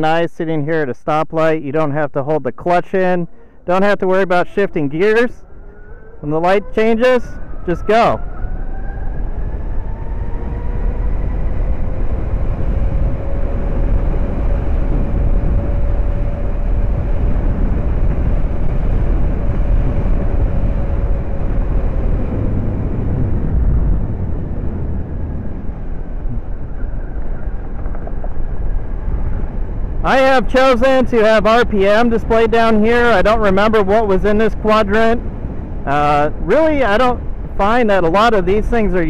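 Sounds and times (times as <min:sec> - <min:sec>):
wind rush and road noise: 0:00.0 - 0:39.0.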